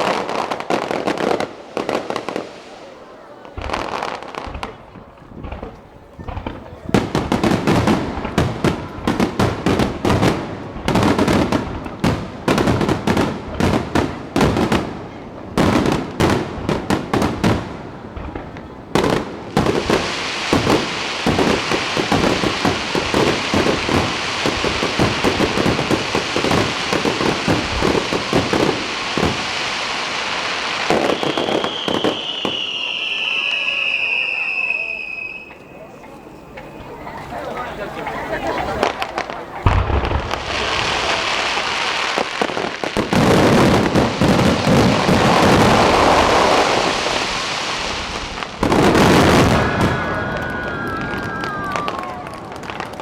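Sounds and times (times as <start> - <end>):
fireworks crackling: 0.0 - 53.0
aerial fireworks bangs: 3.4 - 53.0.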